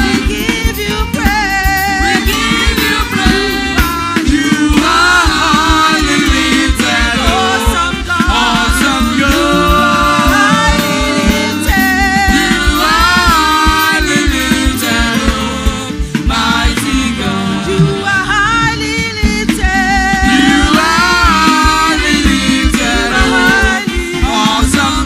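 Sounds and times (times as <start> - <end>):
drums: 0.0 - 25.0
gospel worship singing with band: 0.0 - 25.0.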